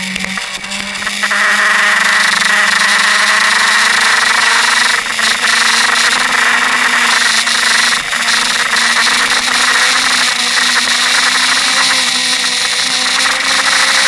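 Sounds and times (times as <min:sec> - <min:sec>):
motorcycle engine running hard: 0:00.0 - 0:14.0.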